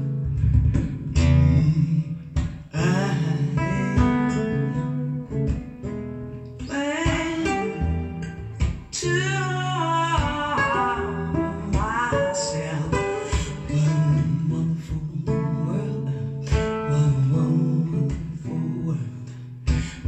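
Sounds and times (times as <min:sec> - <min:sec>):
guitar music with singing: 0:00.0 - 0:20.0.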